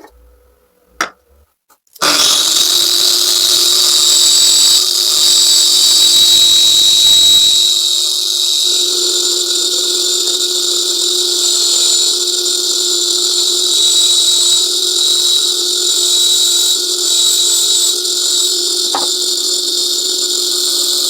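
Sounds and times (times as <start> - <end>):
power tool whining: 2.0 - 21.0.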